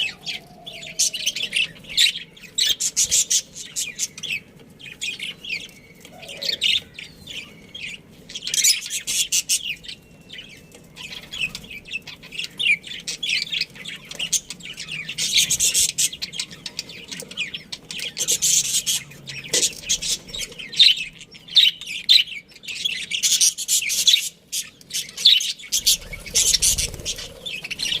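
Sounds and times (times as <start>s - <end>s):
budgies chirping: 0.0s - 28.0s.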